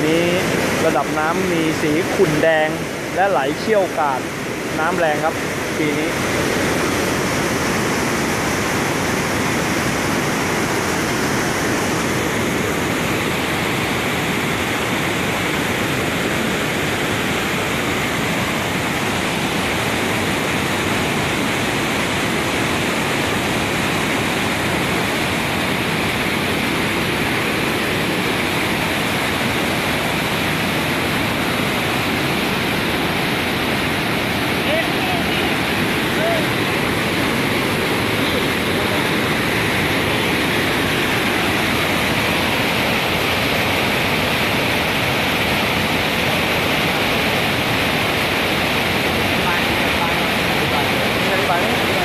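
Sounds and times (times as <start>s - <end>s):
water rushing over waterfall: 0.0s - 52.0s.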